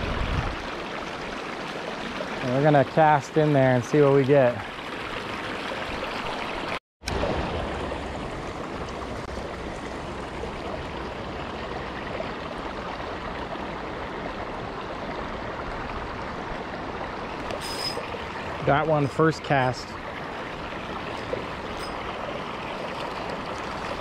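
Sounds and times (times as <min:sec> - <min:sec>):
creek running over rocks: 0:00.0 - 0:24.0.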